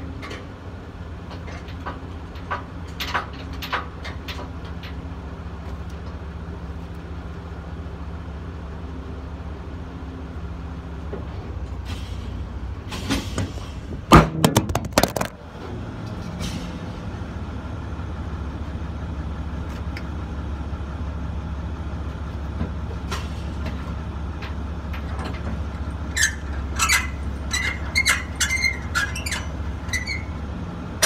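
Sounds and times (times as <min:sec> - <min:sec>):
truck engine idling: 0:00.0 - 0:14.2, 0:14.8 - 0:31.0.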